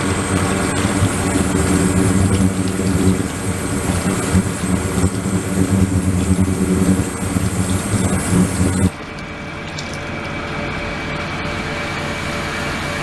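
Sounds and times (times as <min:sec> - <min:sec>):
water splashing and bubbling: 0:00.0 - 0:10.7
low equipment hum: 0:00.0 - 0:13.0.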